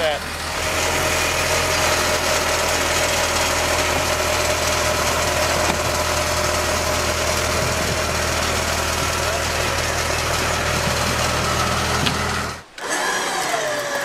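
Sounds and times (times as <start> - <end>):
vehicle engine idling: 0.0 - 12.7.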